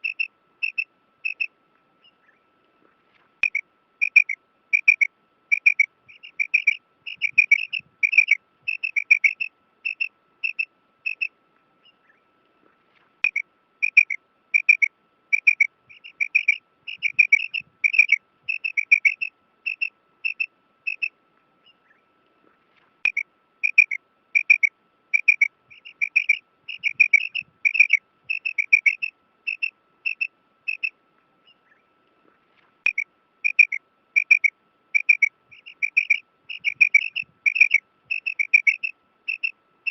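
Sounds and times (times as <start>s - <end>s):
quail chirping calls: 3.4s - 12.2s, 13.2s - 22.0s, 23.0s - 31.8s, 32.8s - 39.9s.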